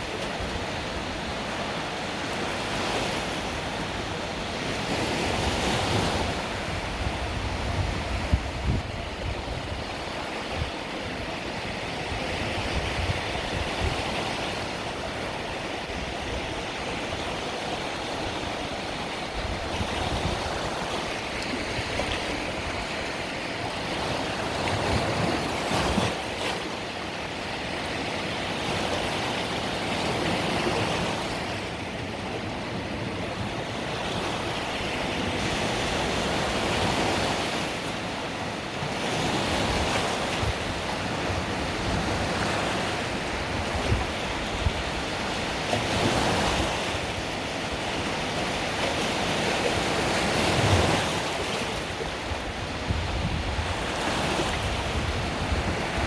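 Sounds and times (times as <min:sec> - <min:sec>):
small waves washing onto shore: 0:00.0 - 0:56.0.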